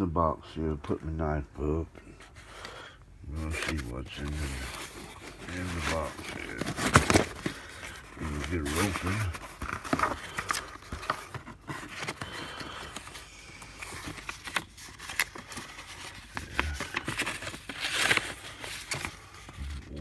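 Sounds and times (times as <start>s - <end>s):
paper rustling: 2.0s - 20.0s
cardboard flaps scraping and creaking: 3.3s - 20.0s.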